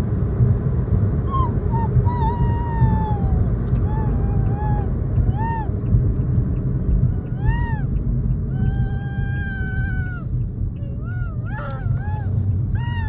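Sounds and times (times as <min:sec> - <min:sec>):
car rumble on road: 0:00.0 - 0:13.0
puppy whining: 0:01.3 - 0:05.8, 0:07.0 - 0:13.0.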